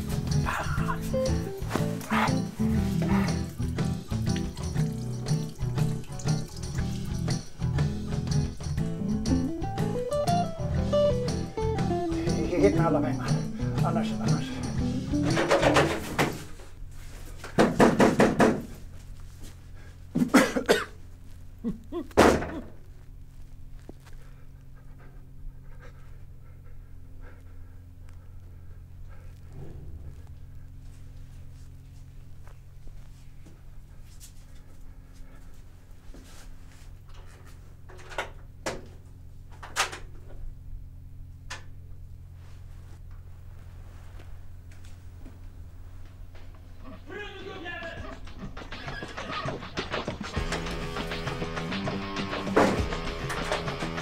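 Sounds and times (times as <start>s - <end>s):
steady low hum: 0.0s - 17.9s, 18.6s - 54.0s.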